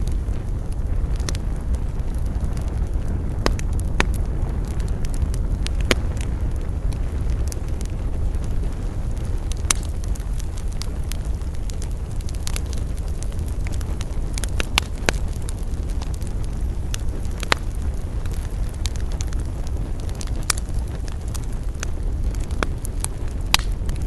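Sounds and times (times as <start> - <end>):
flames rumbling: 0.0 - 24.0
wood crackling and popping: 0.0 - 24.0.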